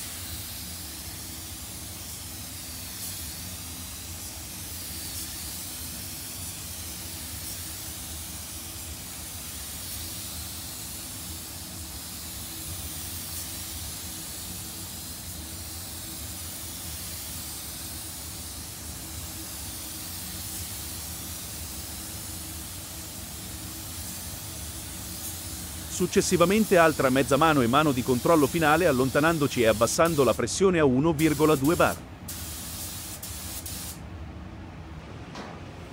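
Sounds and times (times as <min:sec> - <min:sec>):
paint spray gun hissing: 0:00.0 - 0:34.0.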